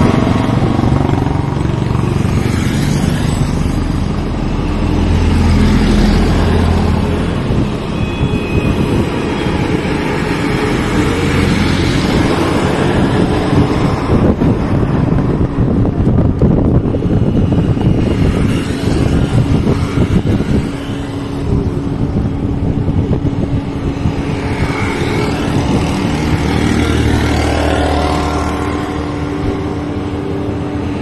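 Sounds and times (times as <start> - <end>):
road traffic hum: 0.0 - 31.0
wind buffeting microphone: 0.0 - 31.0.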